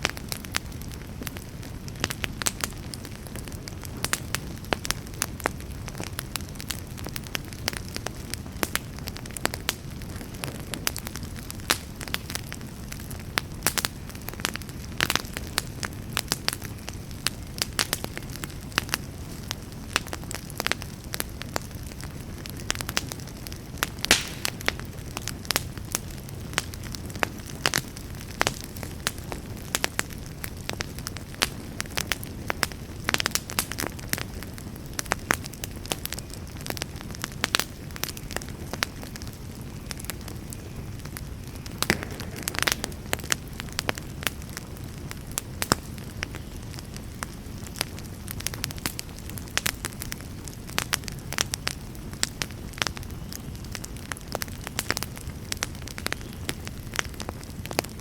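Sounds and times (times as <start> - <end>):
low rumble of fire: 0.0 - 58.0
wood fire crackling and popping: 0.0 - 58.0.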